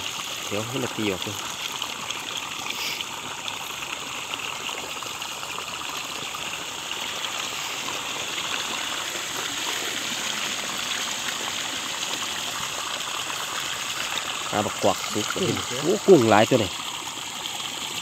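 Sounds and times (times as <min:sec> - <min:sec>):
water rushing through outlet: 0:00.0 - 0:18.0.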